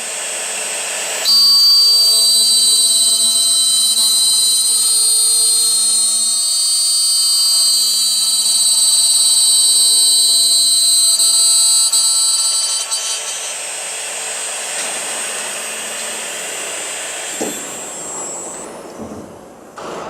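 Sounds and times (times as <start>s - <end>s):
high-pitched machine spindle whine: 0.0s - 19.0s.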